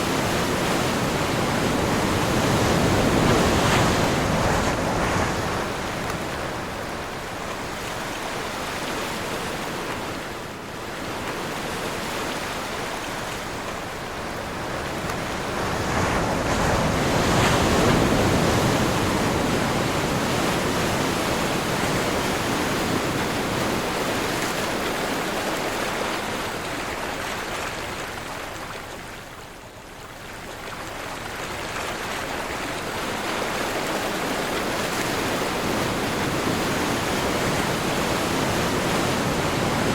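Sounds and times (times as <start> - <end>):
waves breaking and washing in: 0.0 - 39.9
wind: 0.0 - 39.9.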